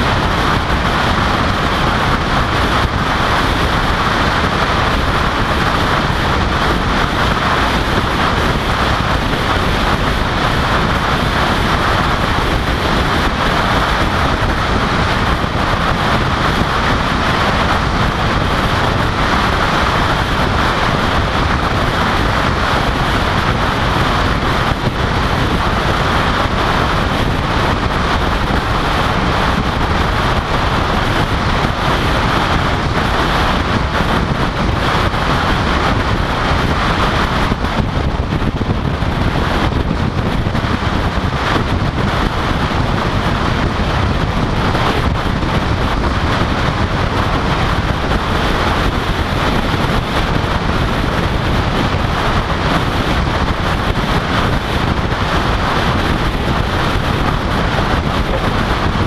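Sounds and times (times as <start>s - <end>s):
car tyre noise at highway speed: 0.0s - 59.0s
wind blowing on microphone: 0.0s - 59.0s
wind rushing: 0.0s - 59.0s.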